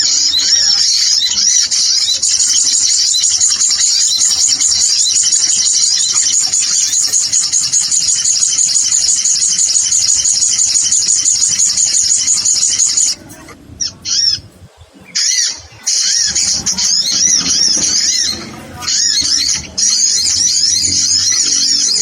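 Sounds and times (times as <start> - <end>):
recorded sunbird calls chattering: 0.0 - 22.0.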